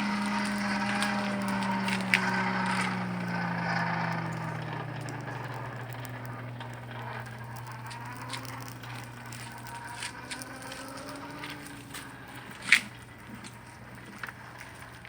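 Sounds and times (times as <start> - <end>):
light crackles: 0.0 - 15.0
mechanical hum: 0.0 - 15.0.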